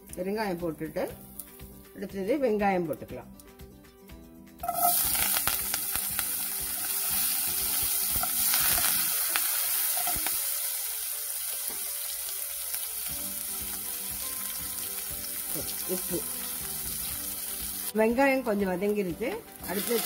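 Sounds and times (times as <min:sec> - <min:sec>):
food sizzling in hot oil: 0:01.1 - 0:01.8, 0:04.6 - 0:20.0.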